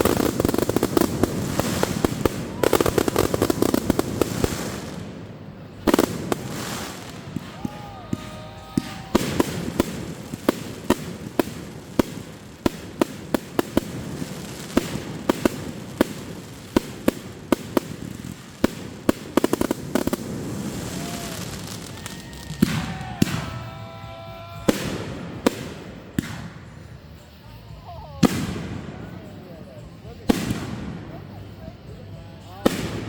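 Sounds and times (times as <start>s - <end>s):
fireworks bangs: 0.0s - 33.0s
fireworks crackling: 0.0s - 33.0s.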